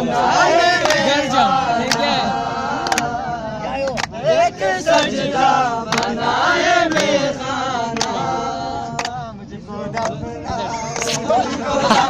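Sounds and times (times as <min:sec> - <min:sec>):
voices singing ornamented melody: 0:00.0 - 0:12.0.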